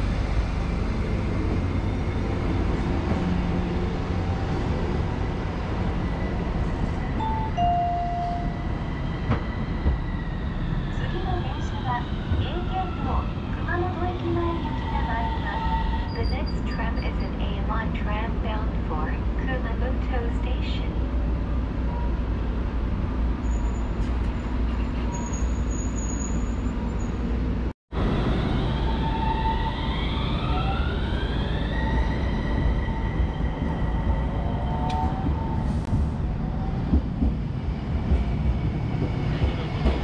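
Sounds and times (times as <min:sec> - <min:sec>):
tram rumbling along rails: 0:00.0 - 0:40.0.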